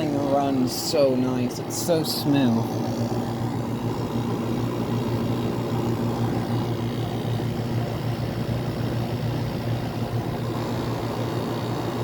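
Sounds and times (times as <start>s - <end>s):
air conditioner fans rushing: 0.0s - 12.0s
compressor low hum: 0.0s - 12.0s.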